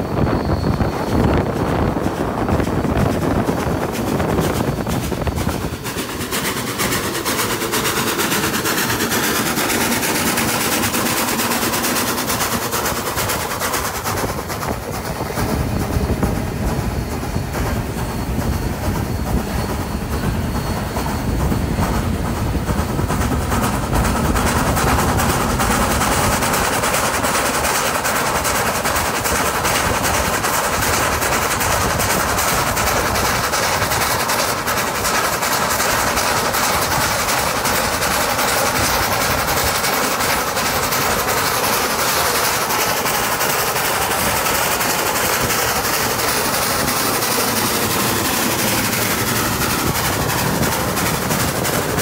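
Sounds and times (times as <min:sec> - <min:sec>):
steam locomotive exhaust: 0:00.0 - 0:52.0
wheels clattering on rails: 0:00.0 - 0:52.0.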